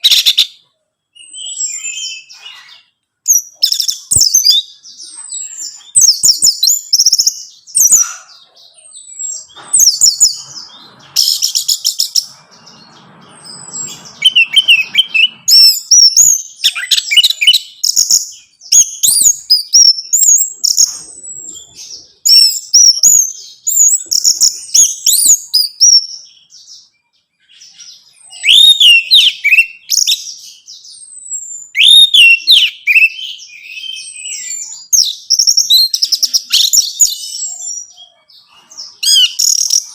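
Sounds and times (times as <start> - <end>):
thrush whistled song: 0.0 - 8.3, 9.0 - 26.8, 27.5 - 38.0.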